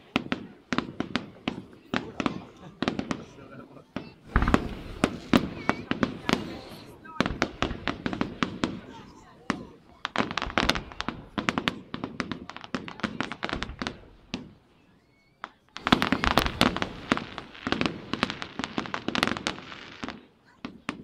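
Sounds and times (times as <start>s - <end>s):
fireworks cracking and banging: 0.0s - 14.7s, 15.4s - 21.0s.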